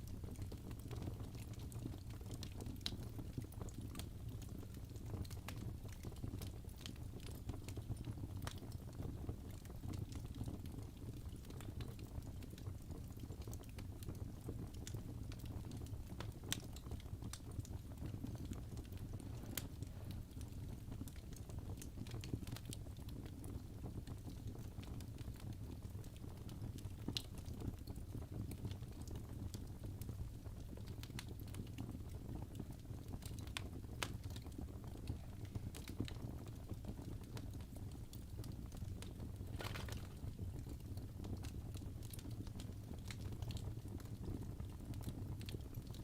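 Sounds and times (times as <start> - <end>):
low rumble of fire: 0.0 - 46.0
logs crackling and popping: 0.1 - 46.0.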